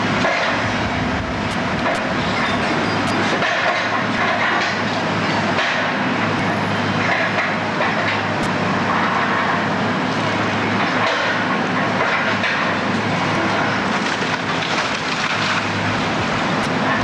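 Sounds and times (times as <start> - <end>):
heavy machinery engine hum: 0.0 - 17.0.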